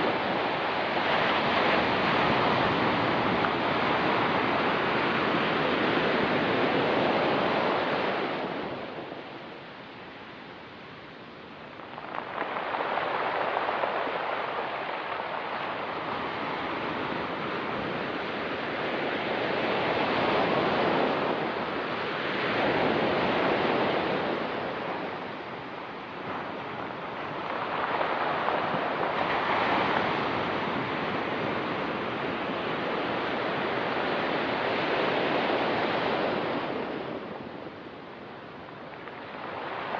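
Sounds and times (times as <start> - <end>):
waves breaking on pebble beach: 0.0 - 9.4, 11.6 - 39.9.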